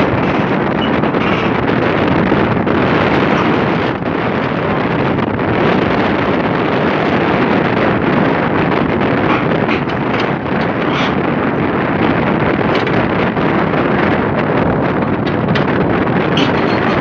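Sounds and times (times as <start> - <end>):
diesel excavator engine running: 0.0 - 17.0
wind buffeting microphone: 0.0 - 17.0.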